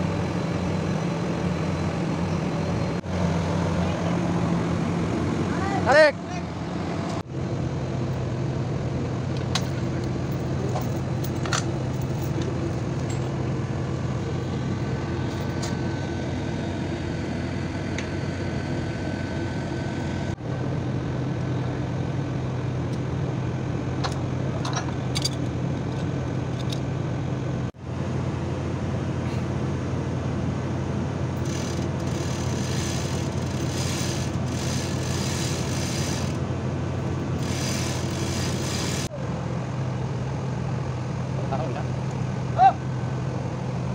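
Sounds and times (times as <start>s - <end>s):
heavy machinery drone: 0.0s - 43.9s.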